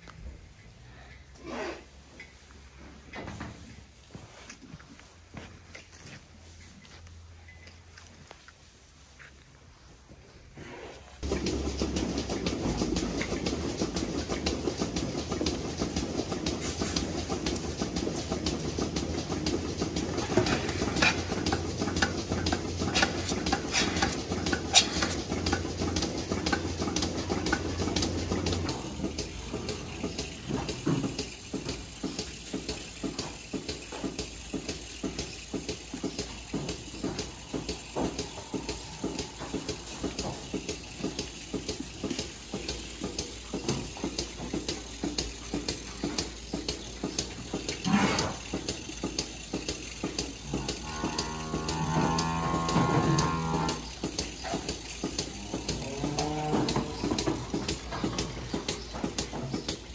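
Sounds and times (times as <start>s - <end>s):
milking machinery humming: 0.0s - 59.9s
rapid clattering clicks: 11.2s - 59.9s.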